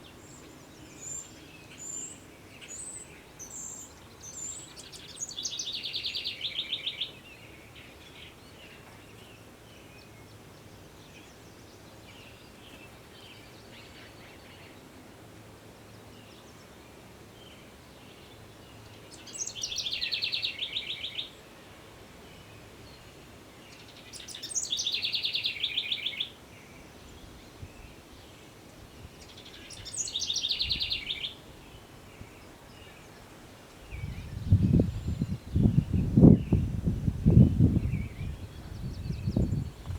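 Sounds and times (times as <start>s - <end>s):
songbird singing trills: 0.0s - 14.9s, 15.9s - 21.6s, 22.2s - 39.9s
steady background hiss: 0.0s - 39.9s.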